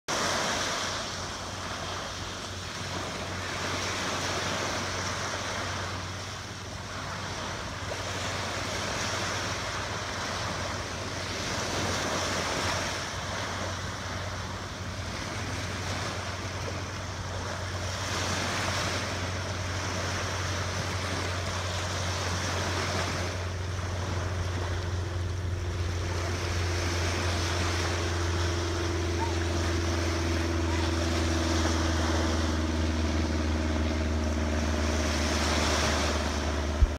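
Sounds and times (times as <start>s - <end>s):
low steady hum: 0.1s - 36.9s
small waves breaking on sand: 0.1s - 36.9s.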